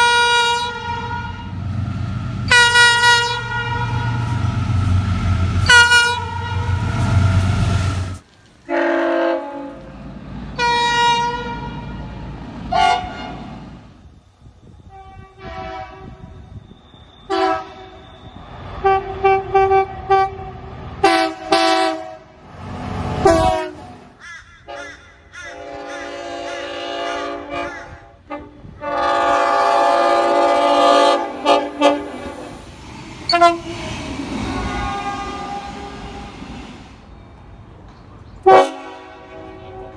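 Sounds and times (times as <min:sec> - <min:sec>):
train horns: 0:00.0 - 0:13.6, 0:14.8 - 0:16.4, 0:17.2 - 0:22.4, 0:23.1 - 0:37.0, 0:38.4 - 0:39.9.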